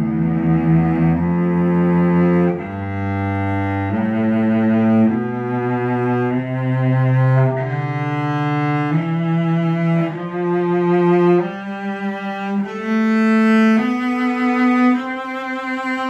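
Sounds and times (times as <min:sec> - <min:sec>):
cello bowed in sustained notes: 0:00.0 - 0:16.0.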